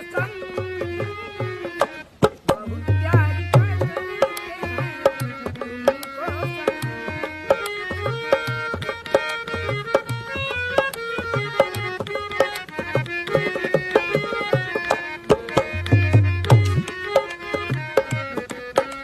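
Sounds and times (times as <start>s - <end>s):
sustained melodic instruments: 0.0s - 19.0s
tabla playing: 0.0s - 19.0s.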